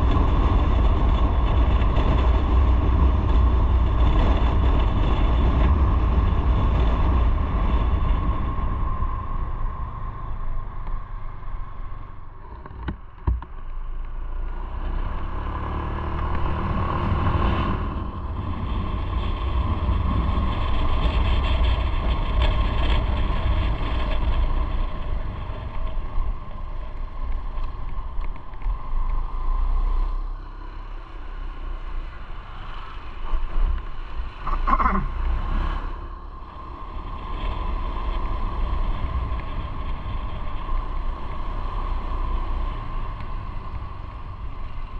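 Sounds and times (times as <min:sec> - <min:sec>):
motorcycle engine rumble: 0:00.0 - 0:44.9
wind noise: 0:00.0 - 0:44.9.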